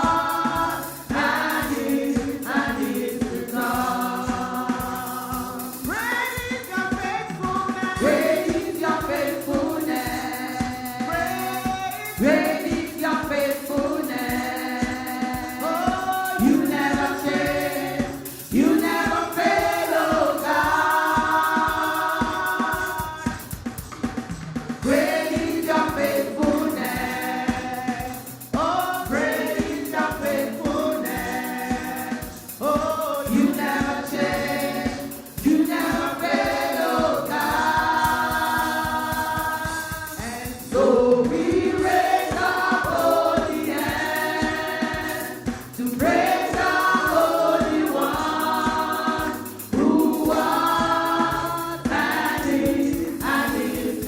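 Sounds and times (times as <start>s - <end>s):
congregation singing worship song: 0.0s - 54.0s
instrumental accompaniment: 0.0s - 54.0s.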